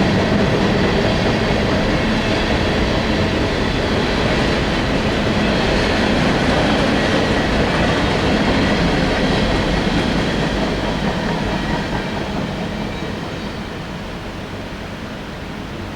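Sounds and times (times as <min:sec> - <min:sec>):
freight train cars rolling on rails: 0:00.0 - 0:15.9.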